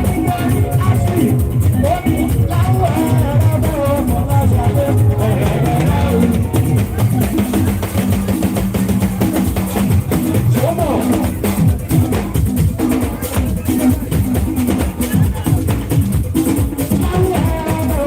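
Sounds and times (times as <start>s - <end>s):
loud music with drums: 0.0s - 18.0s.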